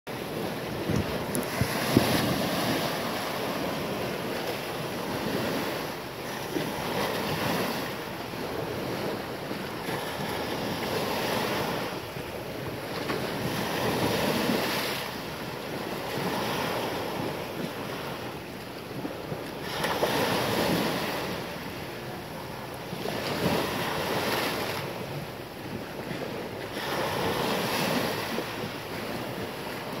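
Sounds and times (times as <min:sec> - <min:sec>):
small waves breaking: 0:00.1 - 0:30.0
wind buffeting microphone: 0:00.1 - 0:30.0.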